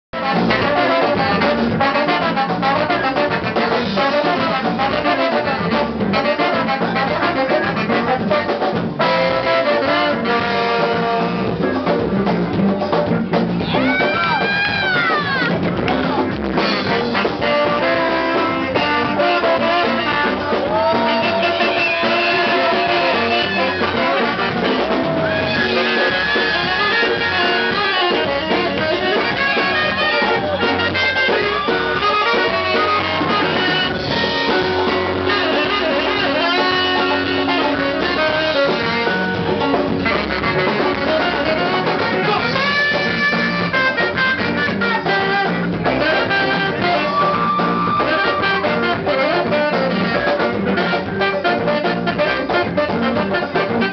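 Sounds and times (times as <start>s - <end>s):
live band playing: 0.2s - 53.9s
saxophone and trombone horn lines: 0.2s - 53.9s.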